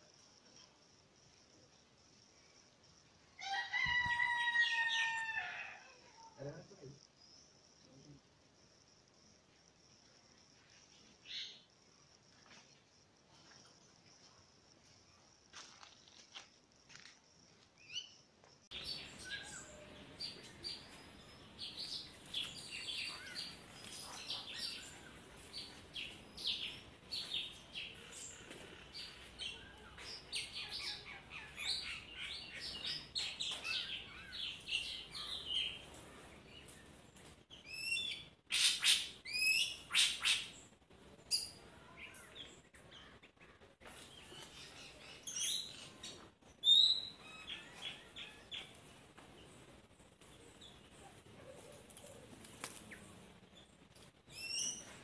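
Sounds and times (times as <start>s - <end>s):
small birds chirping: 6.1s - 55.0s.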